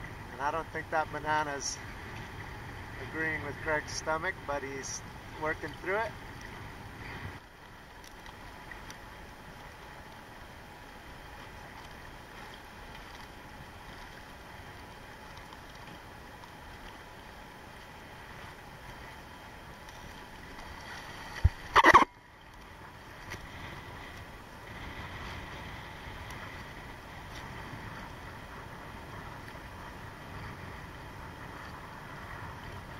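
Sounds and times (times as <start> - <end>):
choppy ocean water: 0.0 - 32.9.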